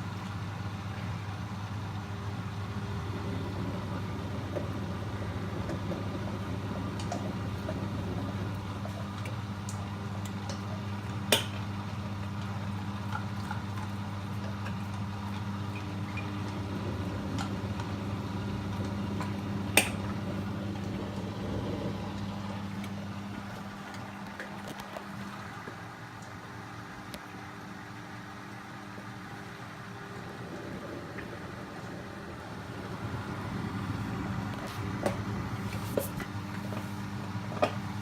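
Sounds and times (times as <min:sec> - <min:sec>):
washing machine humming: 0:00.0 - 0:38.0.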